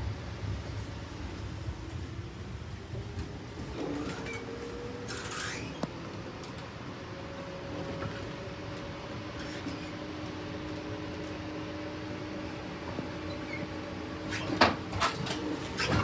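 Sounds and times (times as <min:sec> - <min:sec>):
train car rumbling: 0:00.0 - 0:16.0.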